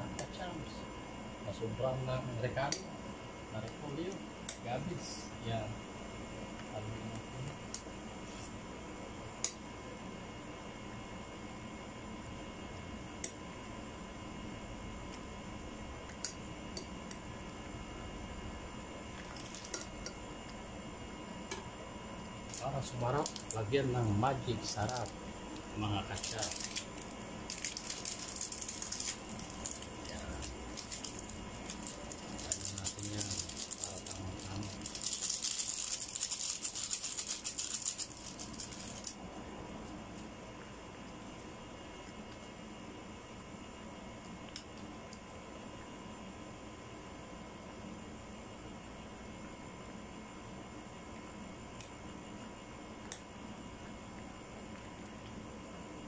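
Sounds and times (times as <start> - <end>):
steady background hum: 0.0 - 56.0.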